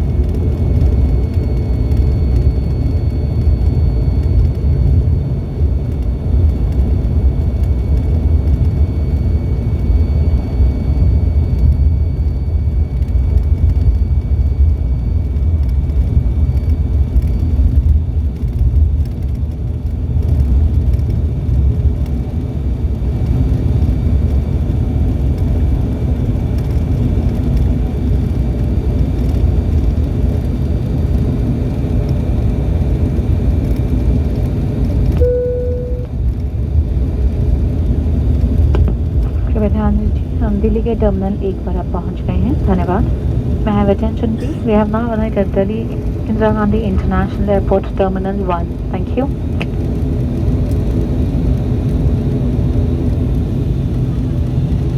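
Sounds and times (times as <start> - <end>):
high engine whine: 0.0 - 54.9
turboprop engines rumbling: 0.0 - 54.9.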